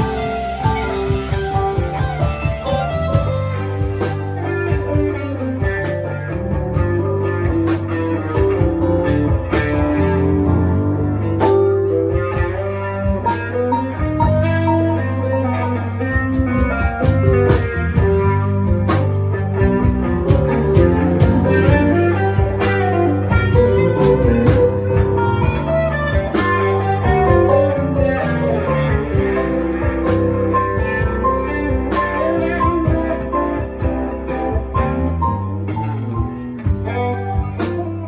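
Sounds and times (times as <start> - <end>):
bass: 0.0 - 38.0
drums: 0.0 - 38.0
guitar: 0.0 - 38.0.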